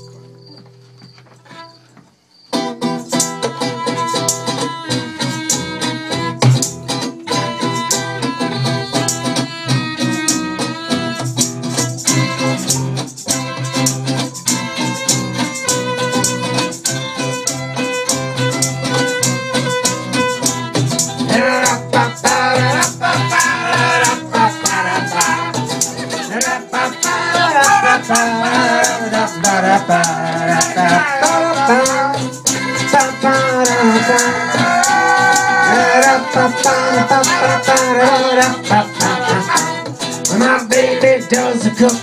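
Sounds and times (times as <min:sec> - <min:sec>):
acoustic and resonator guitars: 0:00.0 - 0:42.0
tambourine shaken: 0:01.7 - 0:42.0
fiddle: 0:03.3 - 0:42.0.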